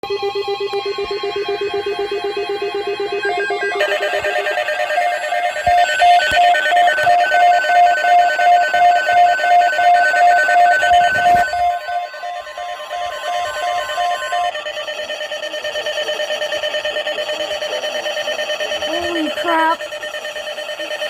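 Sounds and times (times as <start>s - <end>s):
steady alert tones: 0.3s - 21.0s
weather radio alarm beeping: 1.9s - 21.0s.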